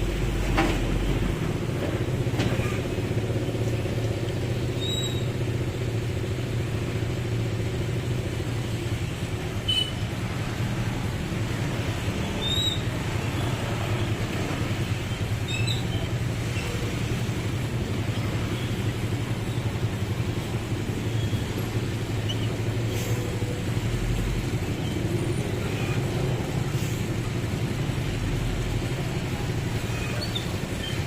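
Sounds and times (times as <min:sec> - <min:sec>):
truck diesel engine rumbling: 0:00.0 - 0:31.0.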